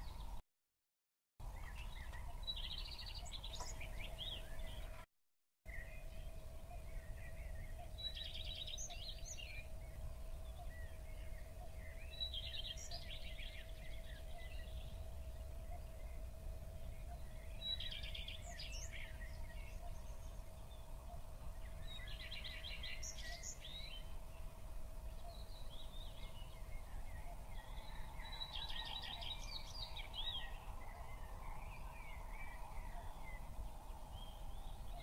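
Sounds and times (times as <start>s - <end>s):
songbird singing: 0.0s - 0.4s, 1.4s - 5.1s, 5.7s - 35.0s
faint steady hum: 5.7s - 35.0s.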